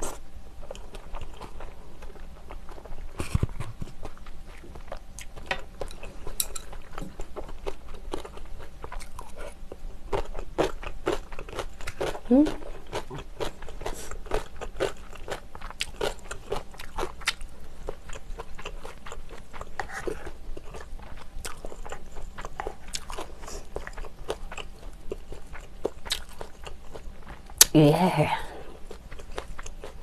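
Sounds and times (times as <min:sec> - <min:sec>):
crunchy chewing: 0:00.0 - 0:27.7, 0:28.7 - 0:30.0.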